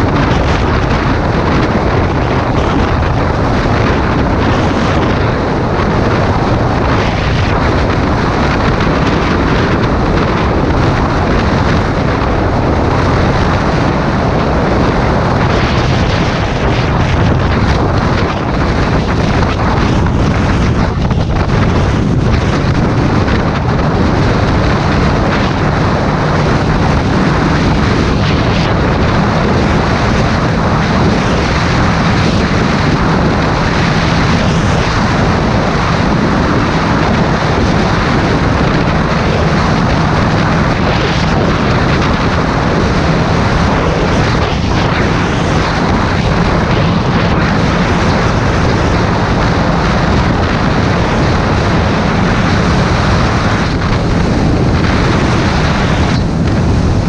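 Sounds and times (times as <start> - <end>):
motorcycle engine drone: 0.0 - 57.0
wind buffeting microphone: 0.0 - 57.0.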